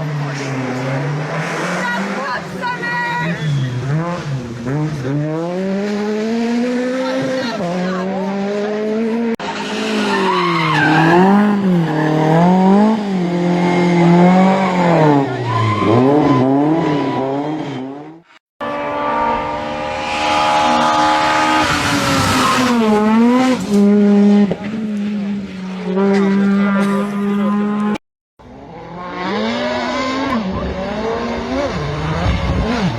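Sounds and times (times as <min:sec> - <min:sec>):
rally car engine revving: 0:00.0 - 0:32.9
tyres skidding: 0:00.0 - 0:32.9.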